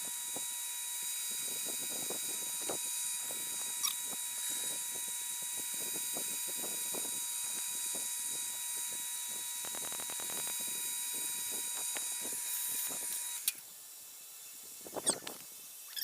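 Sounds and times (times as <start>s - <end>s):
metal lathe motor whine: 0.0s - 13.6s.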